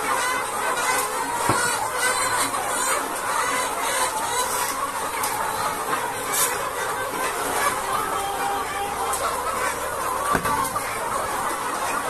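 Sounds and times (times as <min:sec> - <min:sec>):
flock of chickens clucking: 0:00.0 - 0:12.0.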